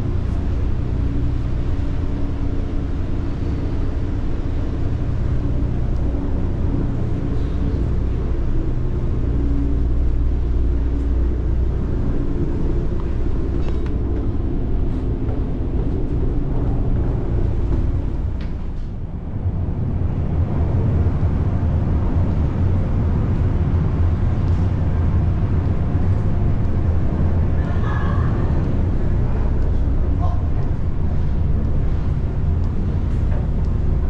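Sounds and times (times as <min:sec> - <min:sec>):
ferry engines droning: 0:00.0 - 0:34.0.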